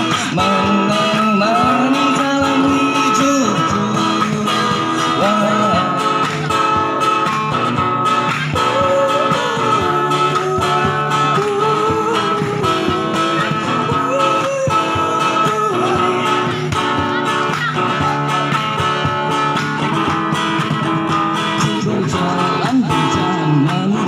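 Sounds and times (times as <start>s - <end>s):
guitars playing pop-rock: 0.0s - 24.0s.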